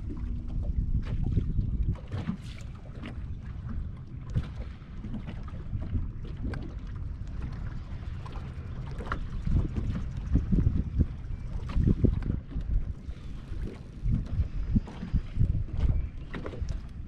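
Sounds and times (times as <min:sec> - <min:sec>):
waves slapping against hull: 0:00.0 - 0:17.0
wind buffeting microphone: 0:00.0 - 0:17.0.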